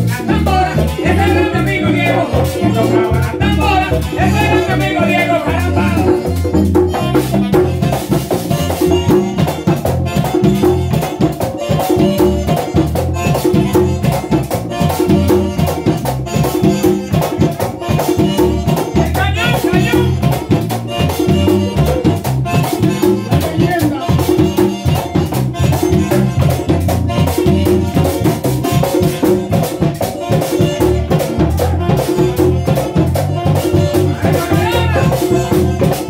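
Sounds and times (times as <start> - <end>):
button accordion: 0.0 - 36.0
electric bass: 0.0 - 36.0
saxophone: 0.0 - 36.0
tambora drum beat: 0.0 - 36.0.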